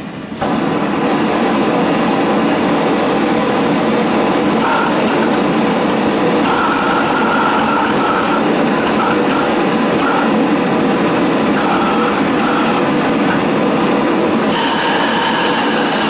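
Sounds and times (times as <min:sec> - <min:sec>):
propane forge burners roaring: 0:00.0 - 0:16.0.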